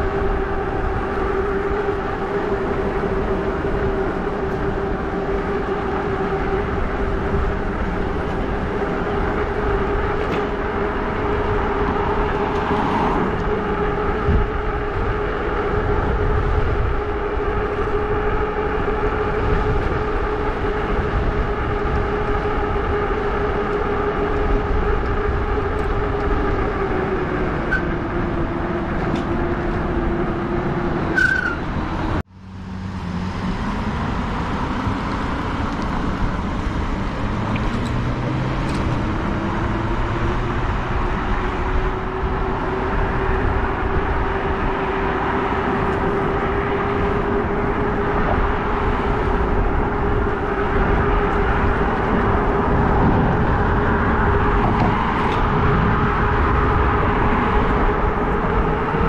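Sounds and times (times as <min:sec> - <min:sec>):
electric bike motor whining: 0:00.0 - 0:32.2, 0:33.8 - 0:59.0
wind noise on microphone: 0:00.0 - 0:59.0.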